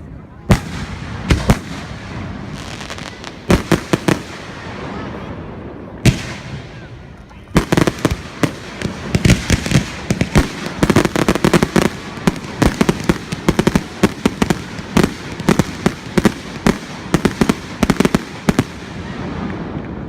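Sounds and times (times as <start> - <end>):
fireworks banging: 0.5 - 20.0.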